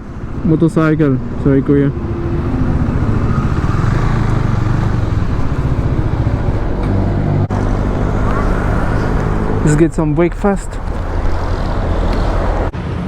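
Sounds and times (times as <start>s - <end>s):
motorcycle engine running: 0.0s - 12.7s
wind and road noise: 0.0s - 13.0s.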